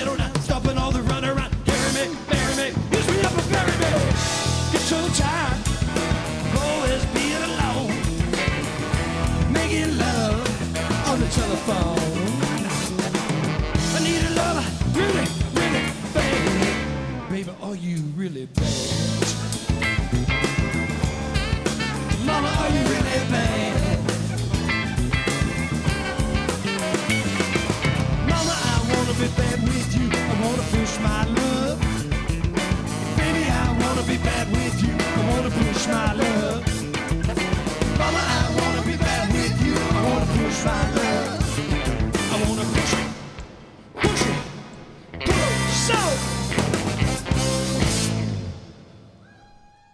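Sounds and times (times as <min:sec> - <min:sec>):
bass guitar: 0:00.0 - 0:49.1
guitars: 0:00.0 - 0:49.7
drums: 0:00.0 - 0:49.9
keyboards: 0:00.0 - 0:49.9
saxophone: 0:01.7 - 0:17.3, 0:18.6 - 0:49.9.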